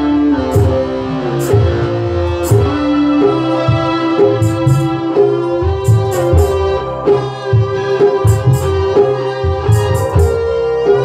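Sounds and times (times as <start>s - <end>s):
electric guitar: 0.0s - 11.0s
electronic keyboard melody: 0.0s - 11.0s
sharp drum strokes: 0.5s - 10.5s
hand drums: 0.5s - 11.0s.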